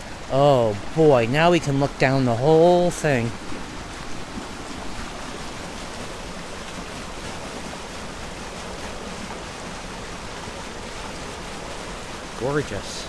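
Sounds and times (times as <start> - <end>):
water rushing into canal lock: 0.0 - 13.0.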